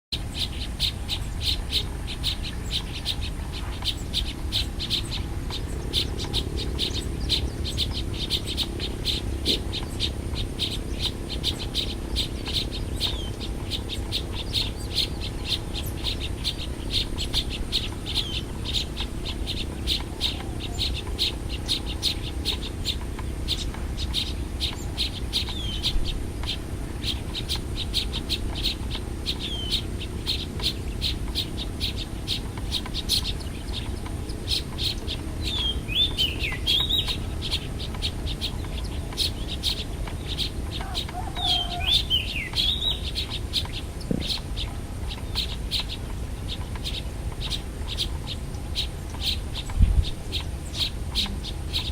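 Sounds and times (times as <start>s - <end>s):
small birds chirping: 0.1s - 51.9s
low steady rumble: 0.2s - 51.9s.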